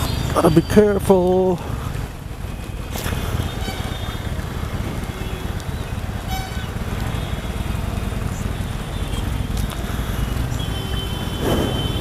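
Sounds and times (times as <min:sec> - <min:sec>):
motorcycle engine at low speed: 0:00.0 - 0:12.0
tyres on wet road: 0:00.0 - 0:12.0.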